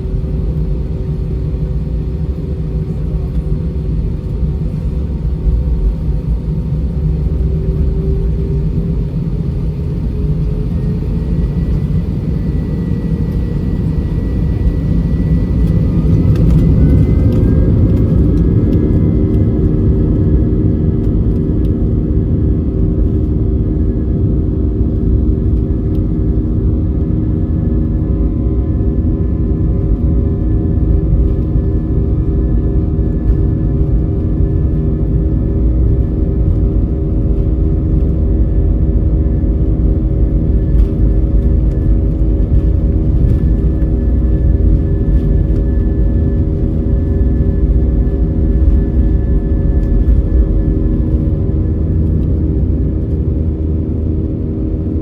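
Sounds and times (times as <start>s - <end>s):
jet engines at takeoff thrust: 0.0s - 55.0s.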